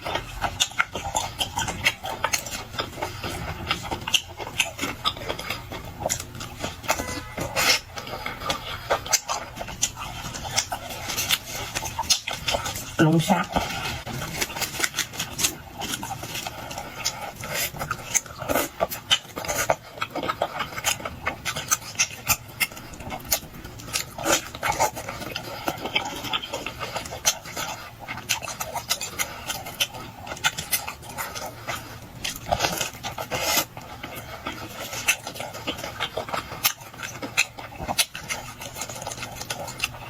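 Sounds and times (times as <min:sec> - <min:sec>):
wet chewing and mouth smacking: 0:00.0 - 0:40.0.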